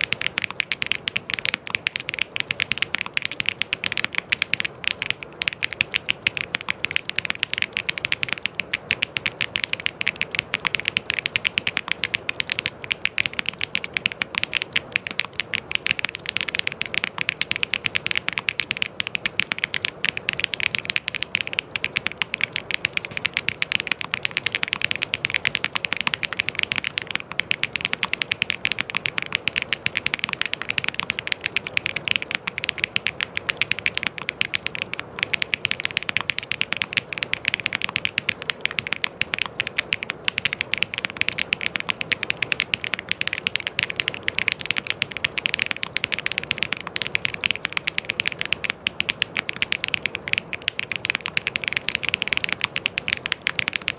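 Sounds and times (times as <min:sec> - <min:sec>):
fast typing on mechanical keyboard: 0:00.0 - 0:53.9.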